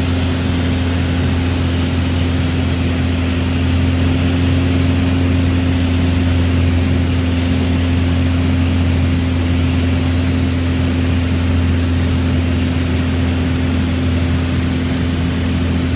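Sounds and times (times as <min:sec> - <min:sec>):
airplane engine and propeller drone: 0:00.0 - 0:15.9.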